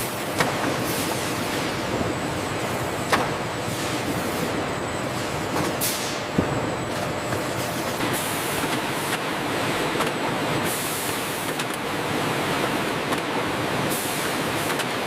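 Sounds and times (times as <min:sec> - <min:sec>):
food-processing machinery running: 0:00.0 - 0:15.0.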